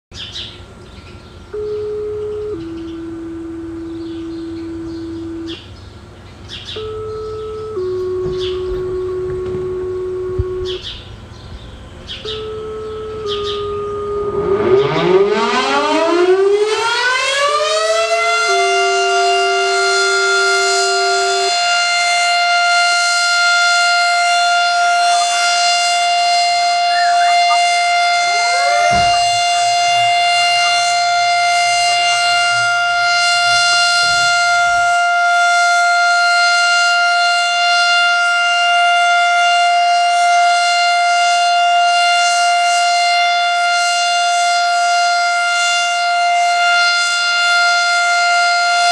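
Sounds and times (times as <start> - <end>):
warning siren winding up: 1.5 - 5.7, 6.7 - 10.9, 12.2 - 48.9.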